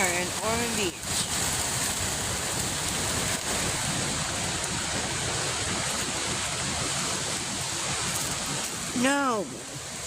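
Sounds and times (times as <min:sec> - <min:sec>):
strong wind rushing: 0:00.0 - 0:10.0
wind buffeting microphone: 0:00.0 - 0:10.0.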